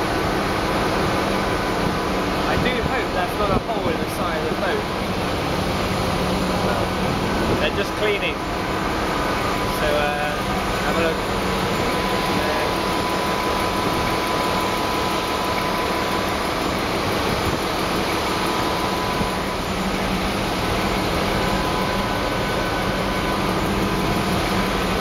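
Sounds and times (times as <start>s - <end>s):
engine-room machinery drone: 0.0s - 25.0s.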